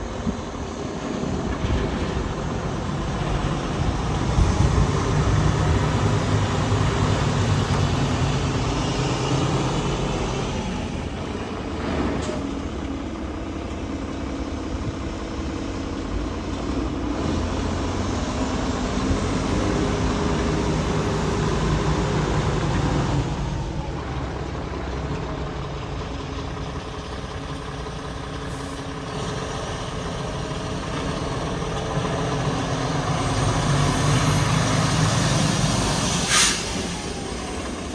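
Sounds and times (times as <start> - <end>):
diesel truck engine running: 0.0 - 37.9.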